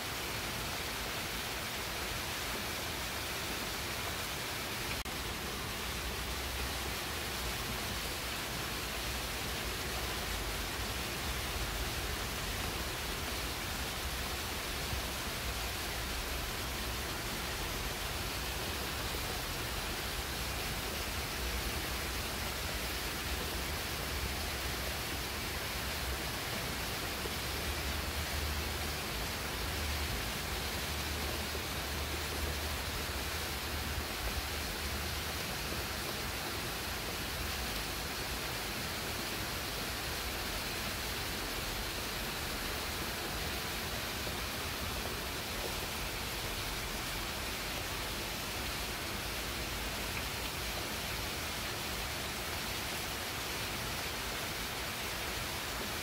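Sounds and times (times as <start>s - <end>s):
rain falling on shrubs: 0.0s - 56.0s.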